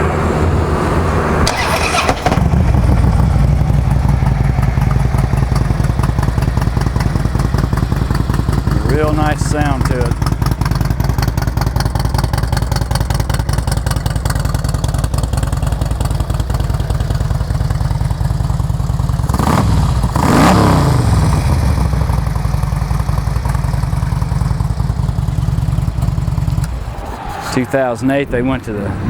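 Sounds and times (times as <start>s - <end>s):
motorcycle engine revving: 0.0s - 26.8s
motorcycle engine idling: 1.4s - 26.8s.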